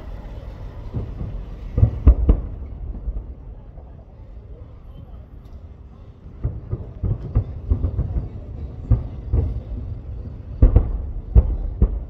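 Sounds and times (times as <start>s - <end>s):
distant fireworks booming and crackling: 0.0s - 12.0s.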